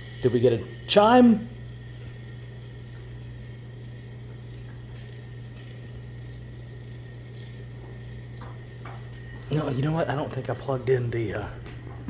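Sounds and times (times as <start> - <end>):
computer fan and hard drive hum: 0.0 - 12.0
thin high whine: 0.0 - 12.0.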